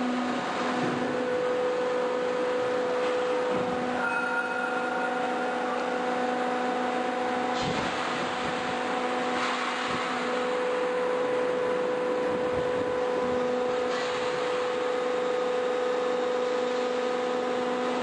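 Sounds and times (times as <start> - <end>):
hydraulic machine hum with whine: 0.0 - 18.0.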